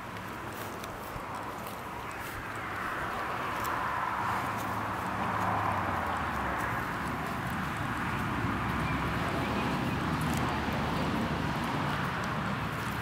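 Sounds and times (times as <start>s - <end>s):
pony tearing grass: 0.0s - 13.0s.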